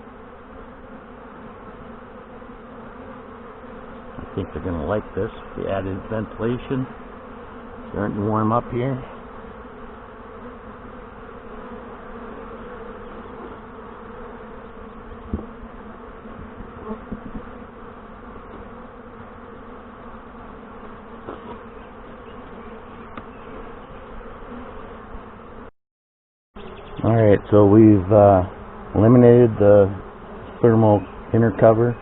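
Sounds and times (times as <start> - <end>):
bees buzzing: 0.0 - 25.7, 26.6 - 32.0.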